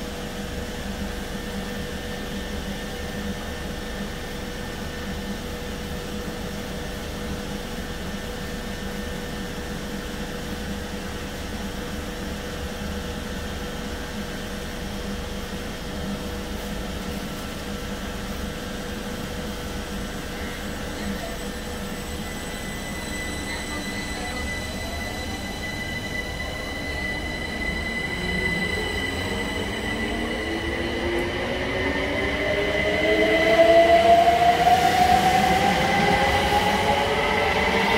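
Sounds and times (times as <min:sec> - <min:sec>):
electric train humming: 0:00.0 - 0:37.9.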